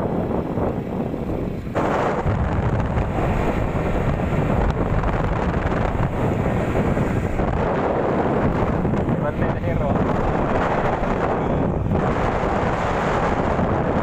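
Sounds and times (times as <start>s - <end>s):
motorbike engine and road noise: 0.0s - 14.0s
wind buffeting microphone: 0.0s - 14.0s.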